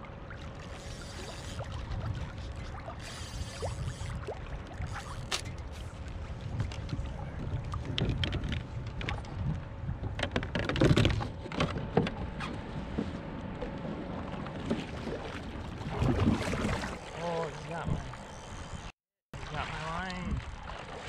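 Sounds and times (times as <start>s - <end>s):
water against a kayak: 0.0s - 21.0s
wind: 0.0s - 21.0s.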